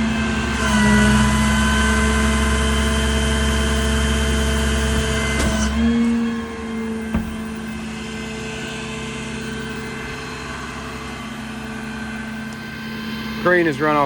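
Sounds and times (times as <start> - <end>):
diesel engine running: 1.2 - 14.0.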